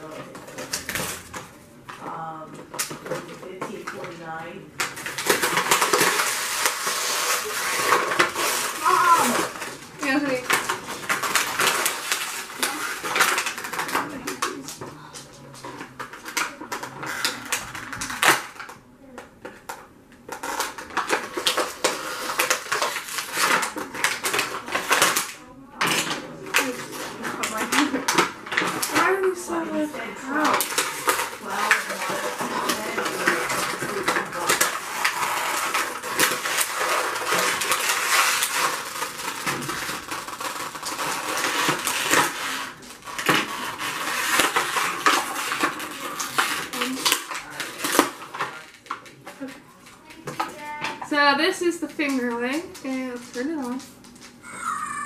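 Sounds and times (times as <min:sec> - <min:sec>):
sharp plastic crack: 0:00.0 - 0:51.2
plastic packaging crinkling: 0:00.0 - 0:55.0.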